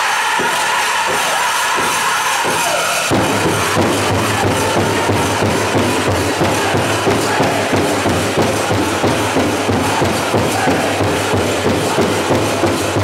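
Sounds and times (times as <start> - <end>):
singers' voices: 0.0 - 13.0
big drum beating: 0.4 - 13.0.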